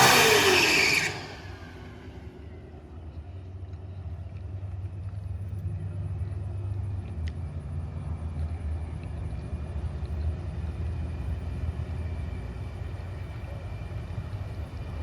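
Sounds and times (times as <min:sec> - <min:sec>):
car engine rumbling at low revs: 0:00.0 - 0:15.0.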